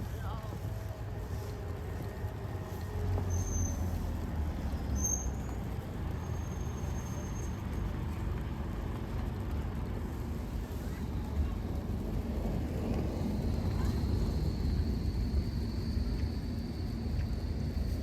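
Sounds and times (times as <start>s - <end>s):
street ambience rumble: 0.0s - 18.0s.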